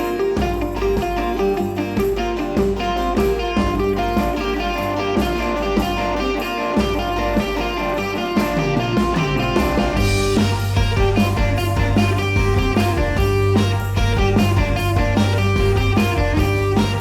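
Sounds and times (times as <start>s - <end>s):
guitar music with beat and bass: 0.0s - 17.0s.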